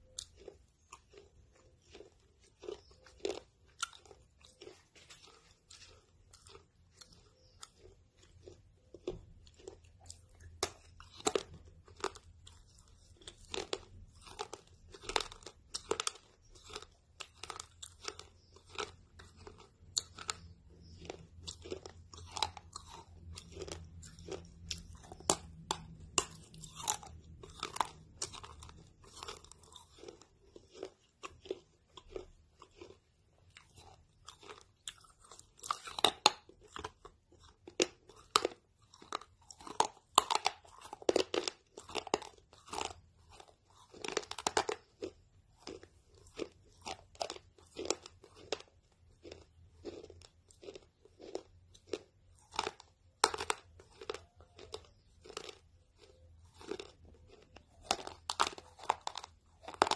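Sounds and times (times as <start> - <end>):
person crunching a snack: 0.0 - 59.9.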